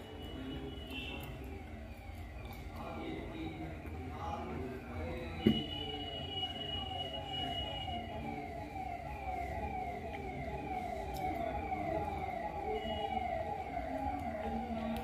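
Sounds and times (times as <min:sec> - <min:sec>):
electronic siren wail: 0:00.0 - 0:15.0.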